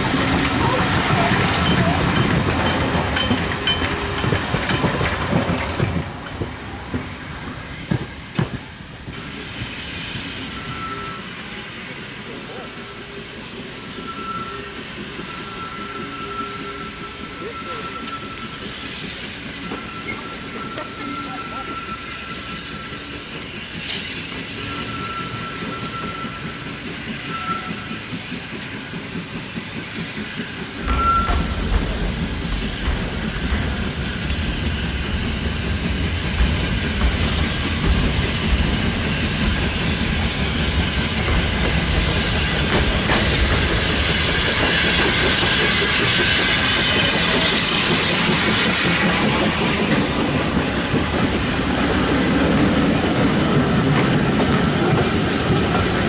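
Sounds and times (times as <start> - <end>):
wheels clacking over rail joints: 0.0 - 9.2, 14.9 - 56.0
steam hiss: 0.0 - 56.0
steam locomotive passing: 0.0 - 56.0.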